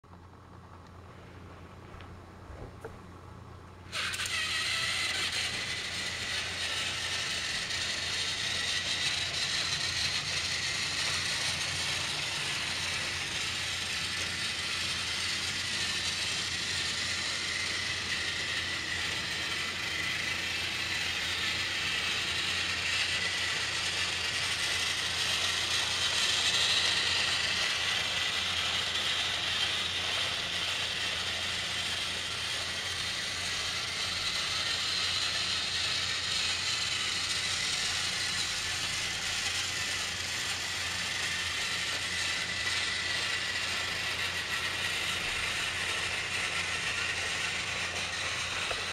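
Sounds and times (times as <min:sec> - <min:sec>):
toy train motor whirring: 0:03.9 - 0:48.9.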